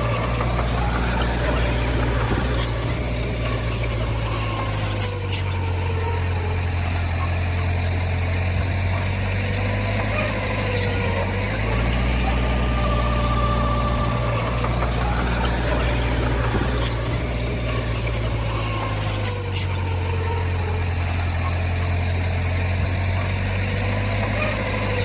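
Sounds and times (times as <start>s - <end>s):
heavy diesel machinery running: 0.0s - 25.0s.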